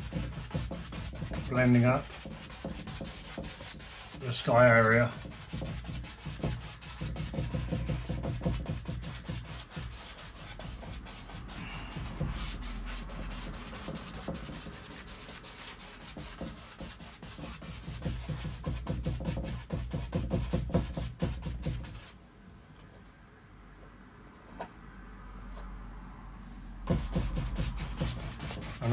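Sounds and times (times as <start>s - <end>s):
brush scrubbing on canvas: 0.0s - 22.2s, 26.9s - 28.9s.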